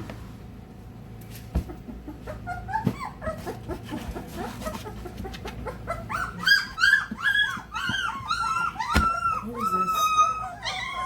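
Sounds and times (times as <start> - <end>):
puppies whining and squealing: 1.6 - 11.0.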